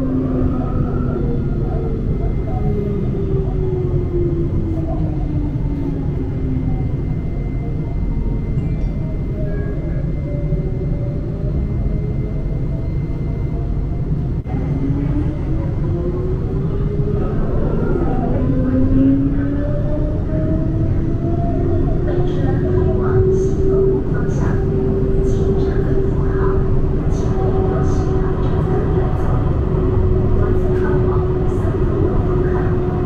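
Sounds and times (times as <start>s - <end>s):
tram wheels rumbling on rails: 0.0s - 33.0s.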